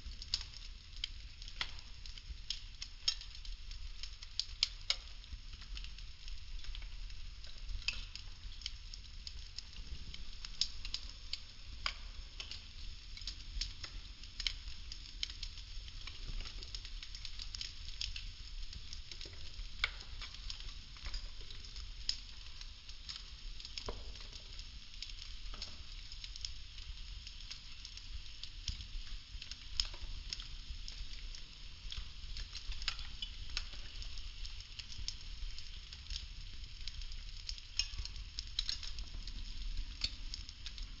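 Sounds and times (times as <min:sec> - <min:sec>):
low rumble of flame: 0:00.0 - 0:41.0
wood crackling and popping: 0:00.0 - 0:41.0.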